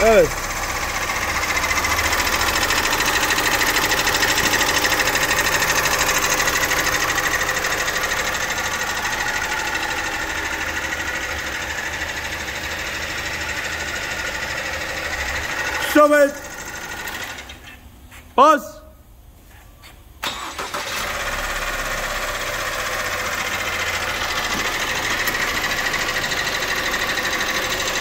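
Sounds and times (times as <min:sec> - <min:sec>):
diesel engine clattering: 0:00.0 - 0:18.1, 0:20.2 - 0:28.0.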